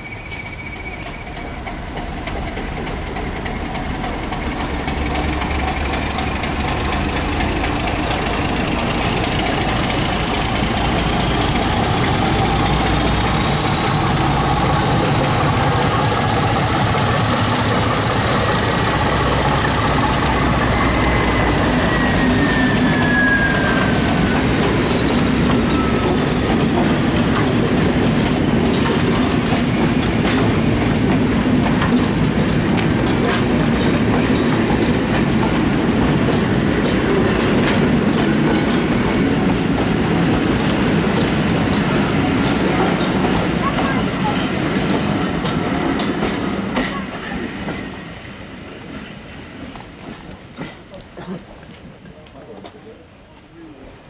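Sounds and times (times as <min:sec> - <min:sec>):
diesel locomotive engine: 0:00.0 - 0:54.0
train wheels rolling on rails: 0:00.0 - 0:54.0.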